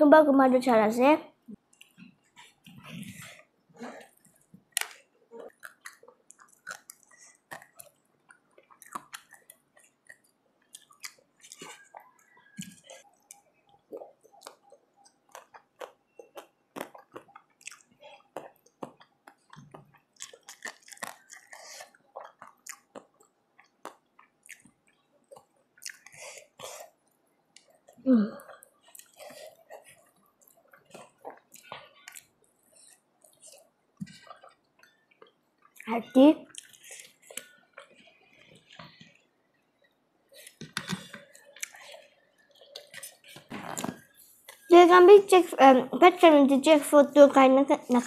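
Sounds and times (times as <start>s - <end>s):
chewing with mouth clicks: 1.6s - 44.7s.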